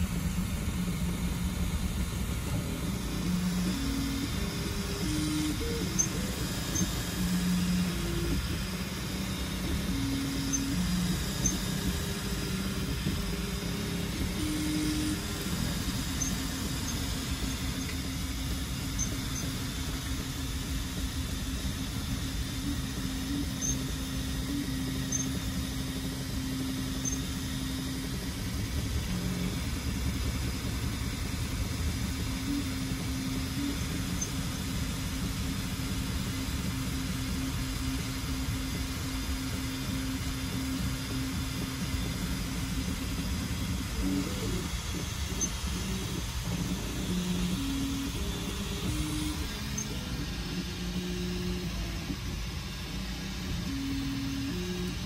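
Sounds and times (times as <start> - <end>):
fan hiss: 0.0 - 55.0
stepper motors humming: 0.0 - 55.0.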